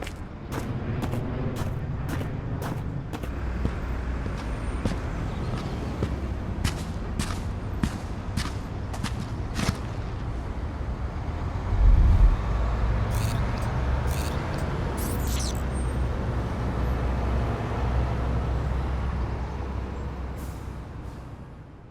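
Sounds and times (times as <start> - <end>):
vehicle engine rumble: 0.0 - 21.9.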